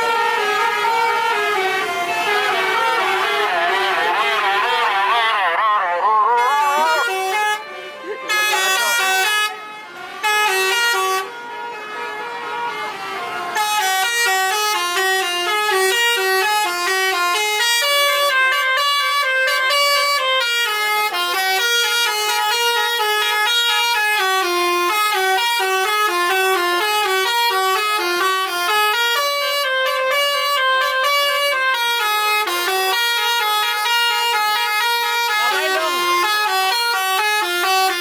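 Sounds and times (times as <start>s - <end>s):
bus horns playing melody: 0.0s - 38.0s.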